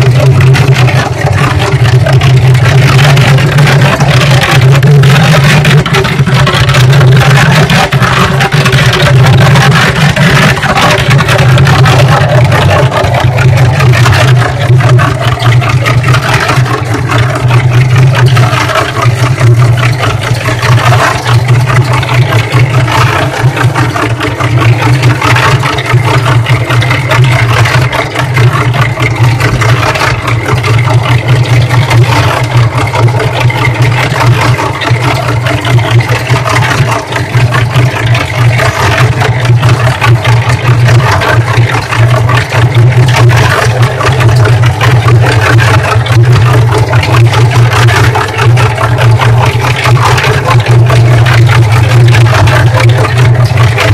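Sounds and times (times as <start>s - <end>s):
cement mixer drum humming: 0.0s - 53.9s
water and clothes sloshing: 0.0s - 53.9s.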